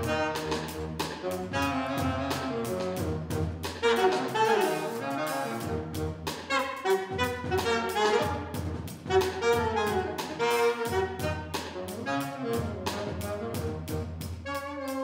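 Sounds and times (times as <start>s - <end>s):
drums and bass beat: 0.0s - 15.0s
saxophone jazz melody: 0.0s - 15.0s.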